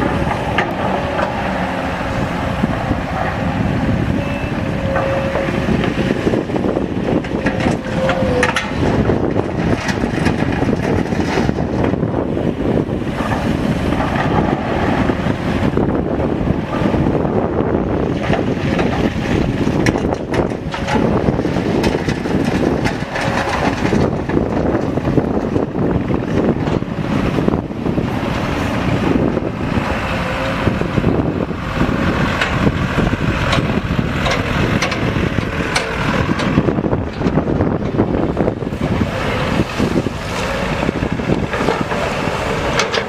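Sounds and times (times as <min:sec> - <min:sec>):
diesel engine running: 0:00.0 - 0:43.0
wind buffeting microphone: 0:00.0 - 0:43.0.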